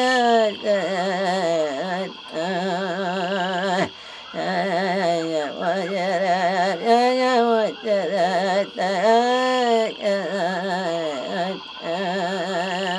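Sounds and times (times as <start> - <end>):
person singing with vibrato: 0.0 - 12.9.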